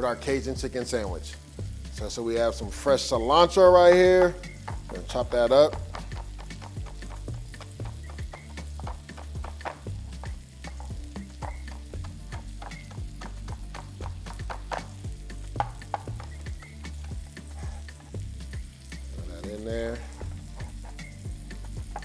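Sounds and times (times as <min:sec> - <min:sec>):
meat sizzling in oil: 0:00.0 - 0:22.0.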